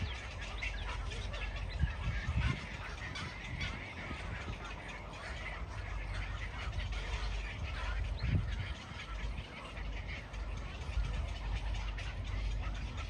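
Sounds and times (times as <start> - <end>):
colony of birds calling: 0.0 - 13.0
low steady rumble: 0.0 - 13.0.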